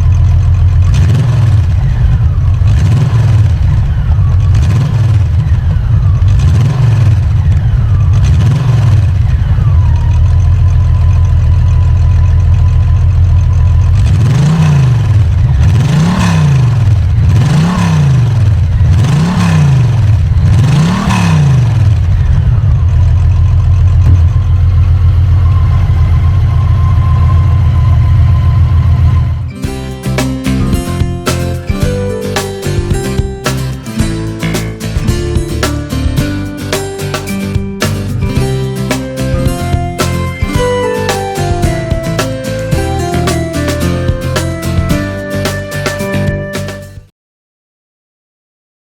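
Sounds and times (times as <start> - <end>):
motorcycle engine idling and revving: 0.0 - 47.1.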